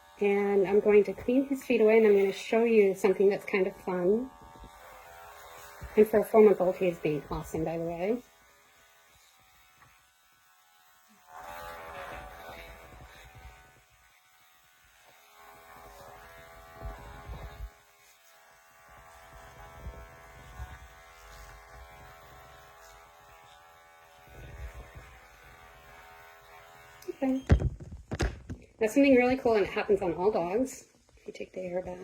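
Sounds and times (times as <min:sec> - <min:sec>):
electric clippers buzzing: 0:00.0 - 0:31.0.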